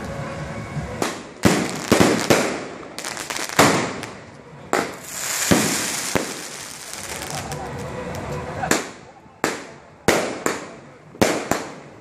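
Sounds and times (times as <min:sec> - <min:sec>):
fireworks bangs: 0:01.0 - 0:12.0.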